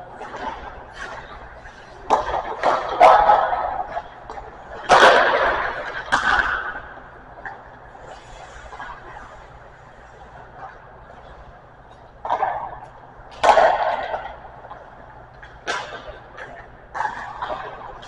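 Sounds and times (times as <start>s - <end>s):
hockey sticks and pucks cracking: 0.2s - 18.0s.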